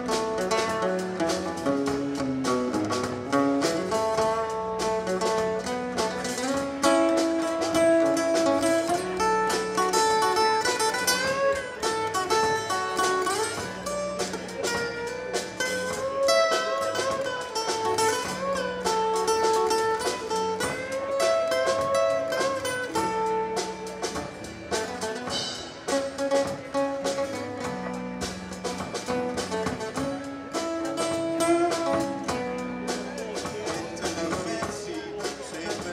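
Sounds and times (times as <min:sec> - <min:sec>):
acoustic band music: 0:00.0 - 0:35.9.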